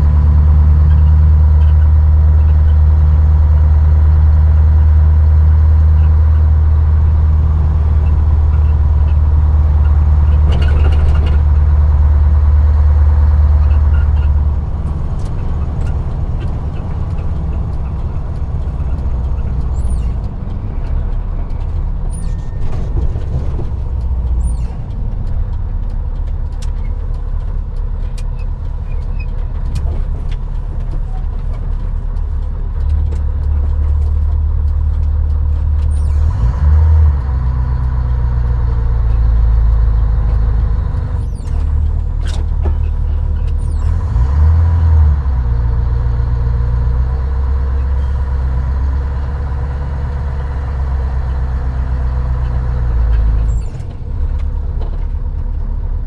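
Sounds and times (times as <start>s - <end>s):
diesel truck engine from inside cab: 0.0s - 56.0s.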